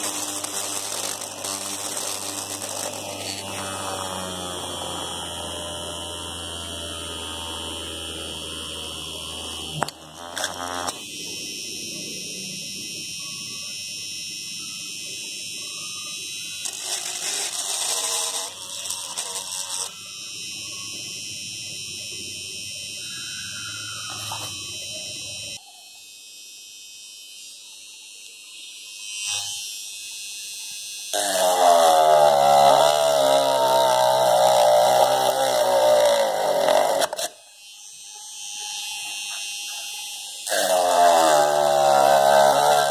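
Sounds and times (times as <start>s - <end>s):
drill motor whining: 0.0s - 25.6s, 29.0s - 42.9s.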